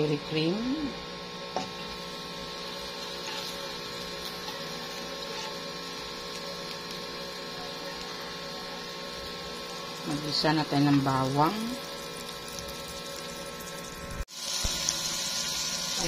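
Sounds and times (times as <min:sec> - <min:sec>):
butter sizzling in a pan: 0:00.5 - 0:16.0.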